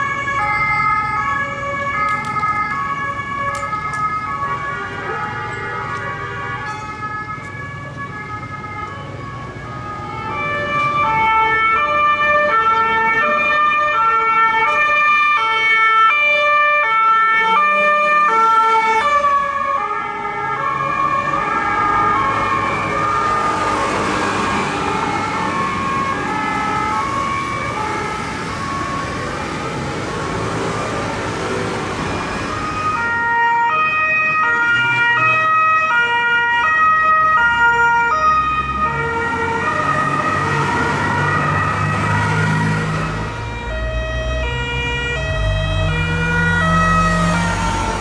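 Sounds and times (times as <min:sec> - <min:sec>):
police two-tone siren: 0:00.0 - 0:48.0
traffic noise: 0:00.0 - 0:48.0.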